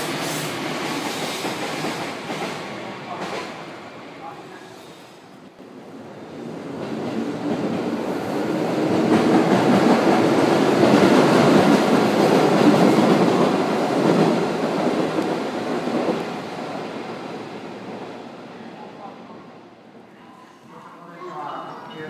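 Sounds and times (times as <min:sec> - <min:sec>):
train rumbling past: 0:00.0 - 0:20.9.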